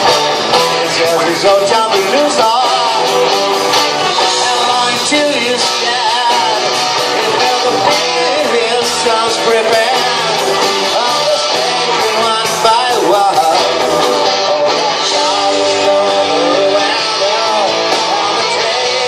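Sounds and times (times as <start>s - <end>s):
drums: 0.0s - 19.0s
electric guitars: 0.0s - 19.0s
keyboard: 0.0s - 19.0s.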